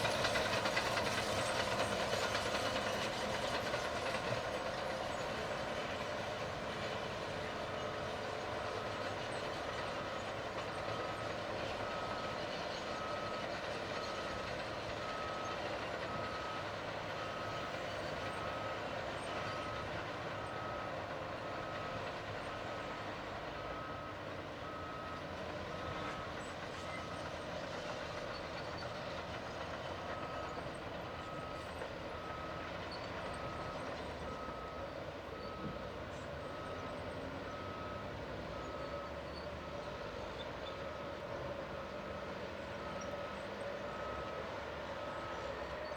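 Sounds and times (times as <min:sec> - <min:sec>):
bulldozer engine and tracks: 0:00.0 - 0:45.9.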